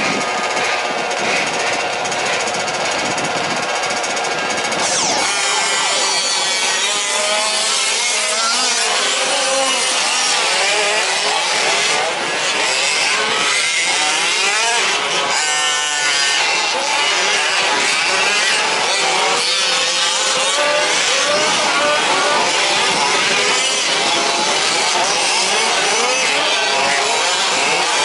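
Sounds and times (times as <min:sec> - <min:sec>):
engines revving and whining: 0:00.0 - 0:28.0
two-stroke engine rattling: 0:00.0 - 0:28.0.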